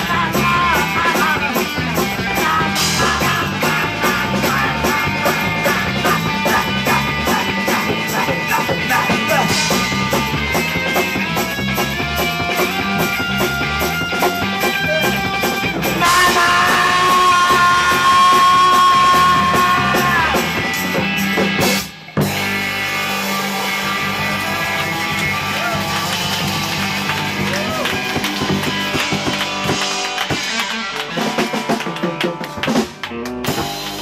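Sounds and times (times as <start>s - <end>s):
blues-rock band playing: 0.0s - 34.0s
cymbals keeping a beat: 0.0s - 34.0s.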